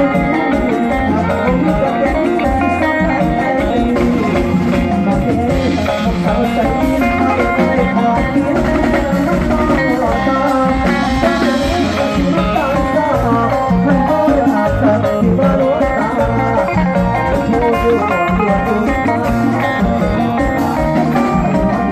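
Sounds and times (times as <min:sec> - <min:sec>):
busy melody line: 0:00.0 - 0:21.9
steady drum beat: 0:00.0 - 0:21.9.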